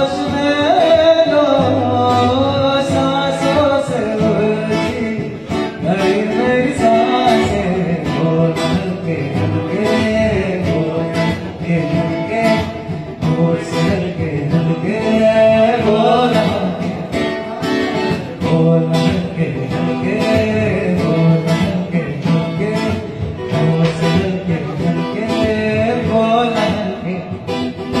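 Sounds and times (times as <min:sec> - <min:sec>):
acoustic guitar: 0:00.0 - 0:28.0
man singing: 0:00.0 - 0:28.0.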